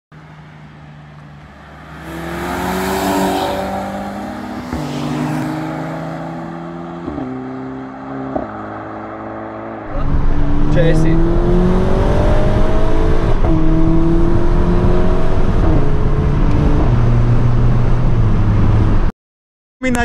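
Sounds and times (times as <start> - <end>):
car engine accelerating: 0.2 - 19.1.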